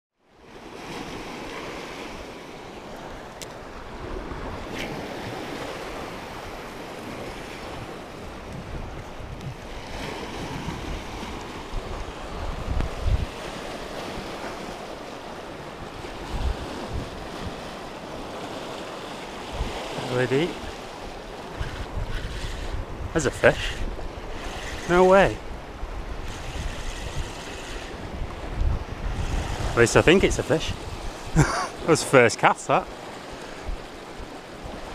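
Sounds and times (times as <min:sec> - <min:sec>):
waves breaking on rocky shore: 0:00.3 - 0:34.9
wind buffeting microphone: 0:03.1 - 0:20.0, 0:20.6 - 0:31.8, 0:33.5 - 0:34.9.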